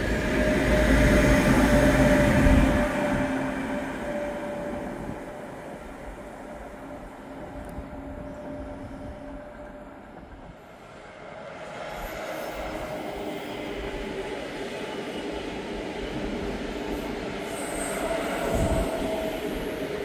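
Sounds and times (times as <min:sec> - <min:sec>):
train rushing rumble: 0:00.0 - 0:20.0.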